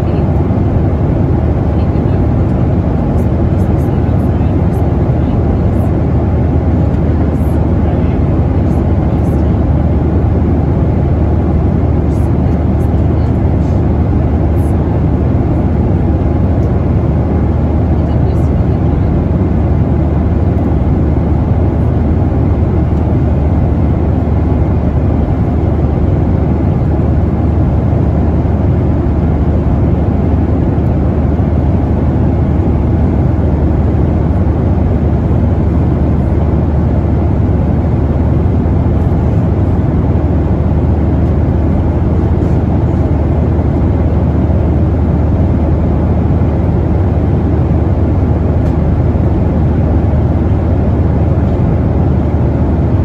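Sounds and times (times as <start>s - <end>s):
jet engine cabin rumble: 0.0s - 53.0s.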